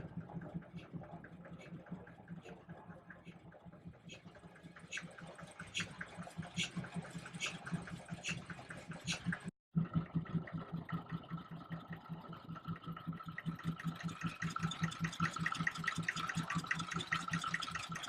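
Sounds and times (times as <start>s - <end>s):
stationary engine running: 0.0s - 18.0s.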